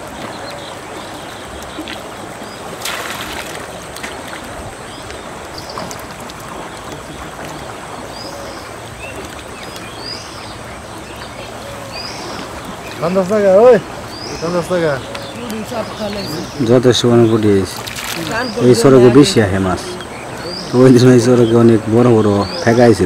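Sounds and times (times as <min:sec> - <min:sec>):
small birds chirping: 0:00.0 - 0:23.0
water splashing and dripping: 0:00.0 - 0:23.0.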